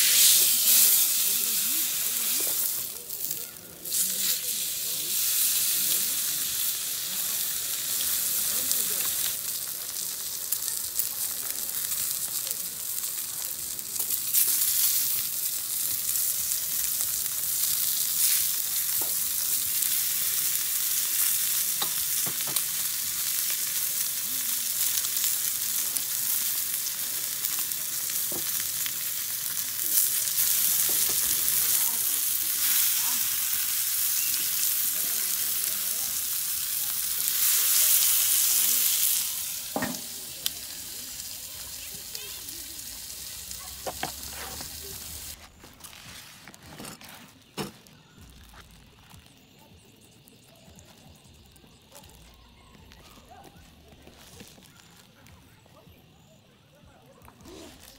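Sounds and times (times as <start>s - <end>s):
meat and vegetables sizzling on grill: 0.0s - 57.9s.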